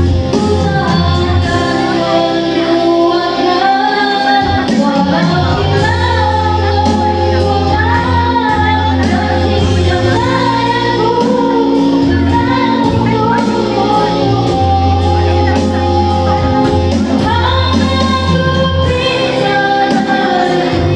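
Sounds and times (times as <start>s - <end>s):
backing band: 0.0s - 20.9s
woman singing: 0.0s - 20.9s.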